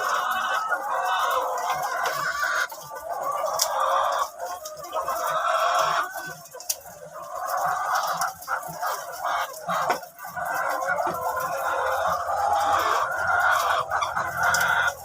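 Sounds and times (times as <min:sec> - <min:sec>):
hens clucking in chorus: 0:00.0 - 0:15.0.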